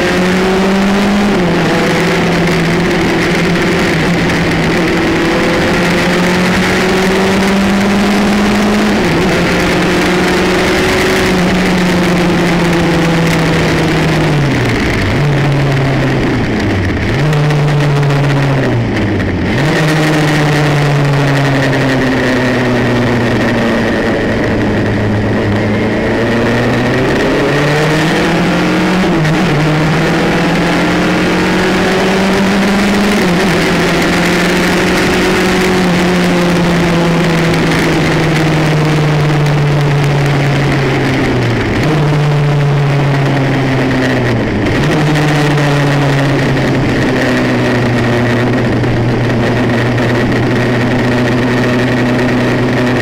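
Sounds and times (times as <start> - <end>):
race car engine: 0.0 - 53.0
wind rush: 0.0 - 53.0.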